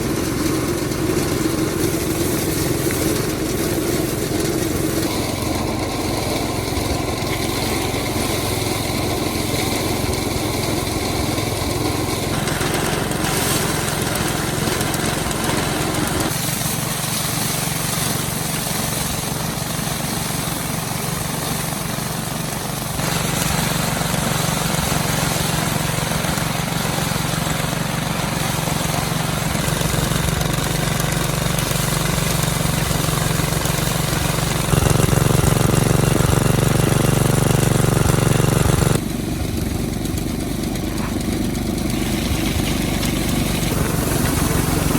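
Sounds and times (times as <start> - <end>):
small engine running: 0.0 - 44.9.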